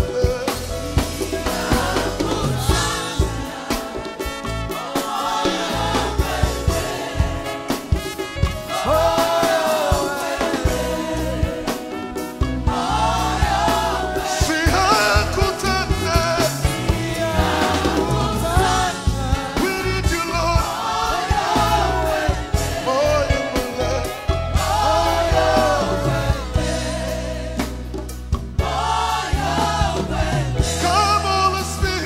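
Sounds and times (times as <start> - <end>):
band with bass and drums: 0.0 - 32.0
voices singing: 0.0 - 32.0.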